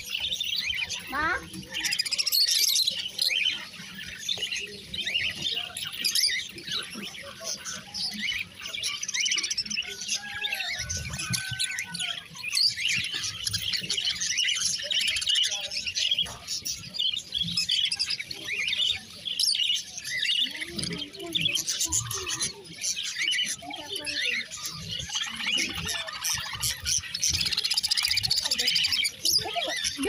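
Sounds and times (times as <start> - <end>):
budgerigars chirping and chattering: 0.0 - 30.0.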